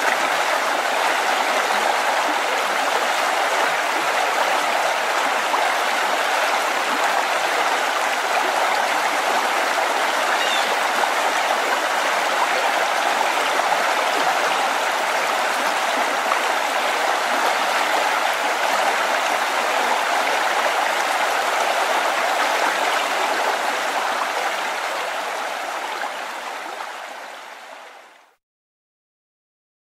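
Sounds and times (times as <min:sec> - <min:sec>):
stream rushing and babbling: 0:00.0 - 0:28.4.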